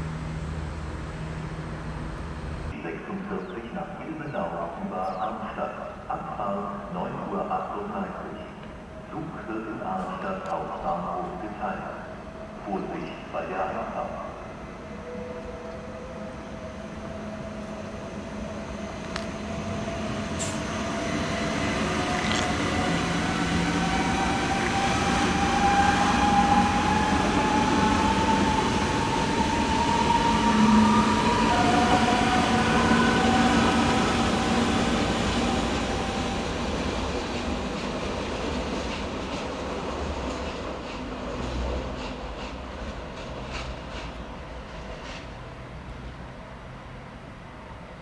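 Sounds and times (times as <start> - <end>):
train running noise: 0.0 - 48.0.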